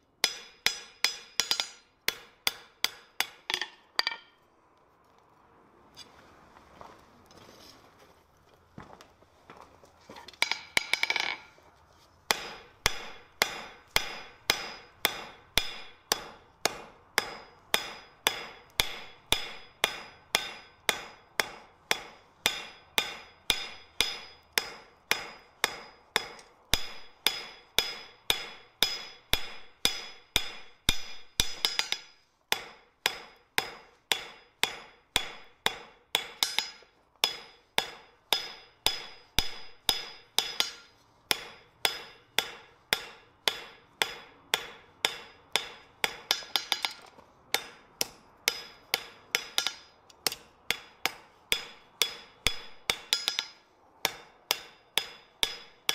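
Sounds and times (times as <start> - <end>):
hammer striking on an anvil: 0.2 - 4.4, 10.4 - 11.5, 12.3 - 55.9.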